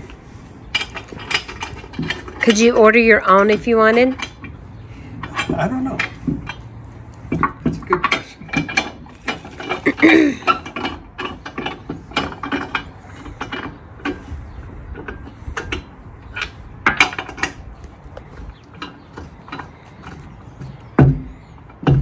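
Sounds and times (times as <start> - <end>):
metallic clicks of wheel bolts: 3.3 - 22.0.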